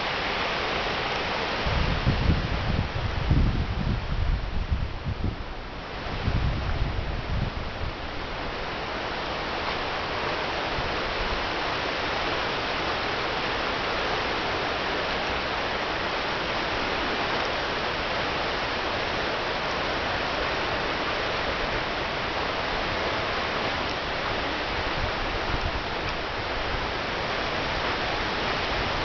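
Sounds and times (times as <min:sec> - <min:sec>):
water rushing over rocks: 0:00.0 - 0:03.6, 0:05.5 - 0:29.0.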